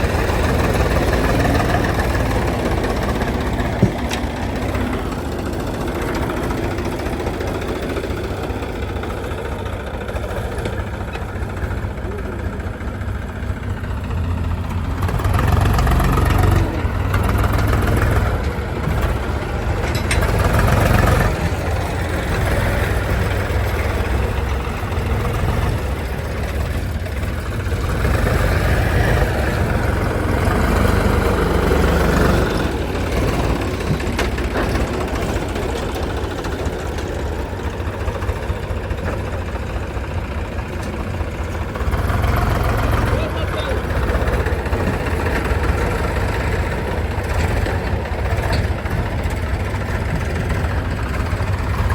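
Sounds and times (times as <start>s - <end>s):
diesel engines rumbling: 0.0s - 51.9s.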